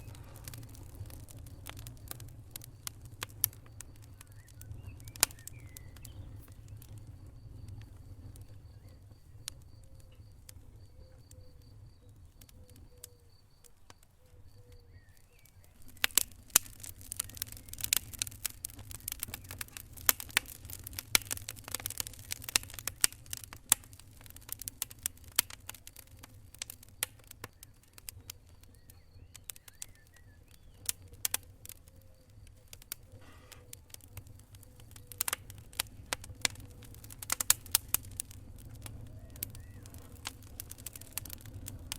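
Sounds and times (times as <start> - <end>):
low rumble of flames: 0.0 - 41.9
wood fire crackling and popping: 0.0 - 41.9.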